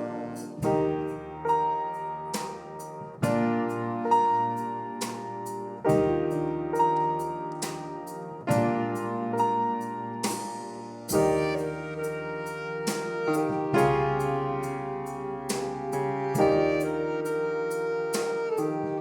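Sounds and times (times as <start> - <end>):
piano chords: 0.0 - 19.0
swing band playing: 0.0 - 19.0.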